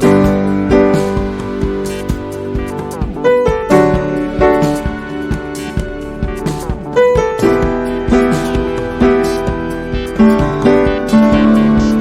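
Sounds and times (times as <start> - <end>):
piano chords over steady beat: 0.0 - 12.0.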